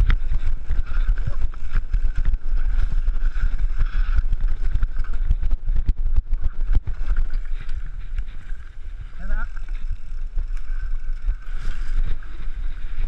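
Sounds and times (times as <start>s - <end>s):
bike rattling over bumps: 0.0s - 13.0s
wind buffeting microphone: 0.0s - 13.0s.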